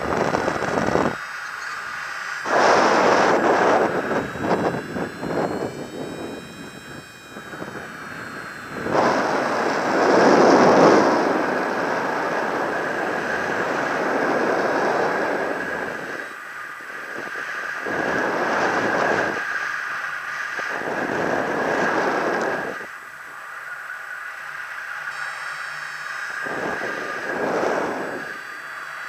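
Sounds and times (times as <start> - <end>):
wind rushing over microphone: 0.0 - 1.2, 2.4 - 23.0, 26.0 - 29.0.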